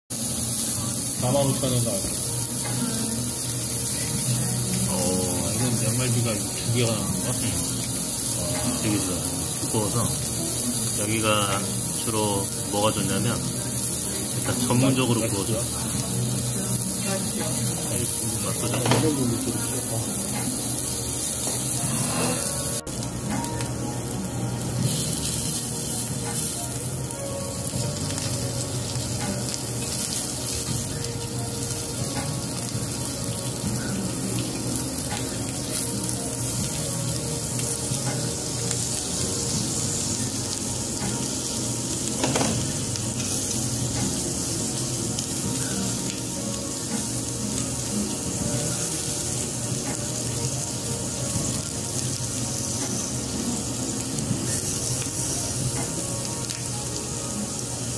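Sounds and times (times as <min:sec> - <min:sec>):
meat sizzling on grill: 0:00.1 - 0:57.9.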